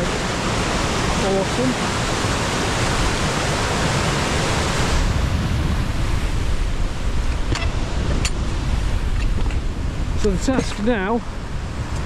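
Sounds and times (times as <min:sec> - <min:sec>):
waterfall rushing: 0:00.0 - 0:12.0
wind buffeting microphone: 0:00.0 - 0:12.0.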